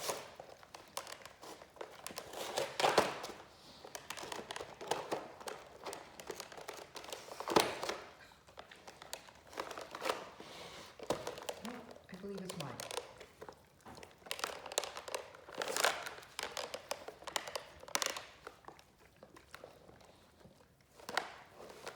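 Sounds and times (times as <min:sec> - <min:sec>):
dogs gnawing on a bone: 0:00.0 - 0:21.9.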